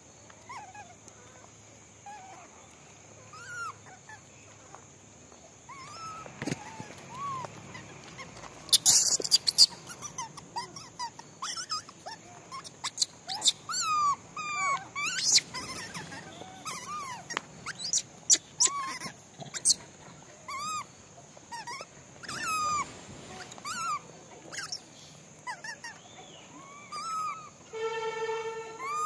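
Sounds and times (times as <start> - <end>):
monkeys giving squeaky calls: 3.3 - 4.2, 5.7 - 19.9, 20.5 - 29.0.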